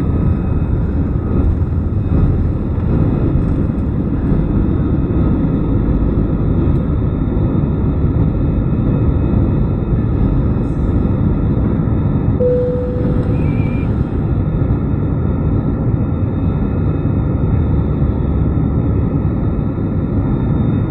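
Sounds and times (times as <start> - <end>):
jet engines rumbling: 0.0 - 20.9.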